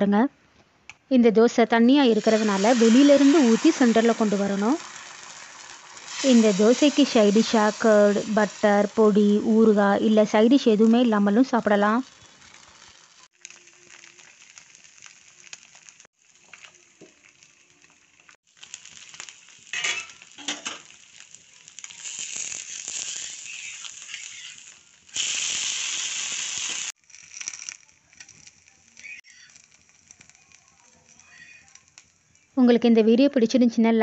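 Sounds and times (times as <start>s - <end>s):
batter sizzling on hot griddle: 2.1s - 32.6s.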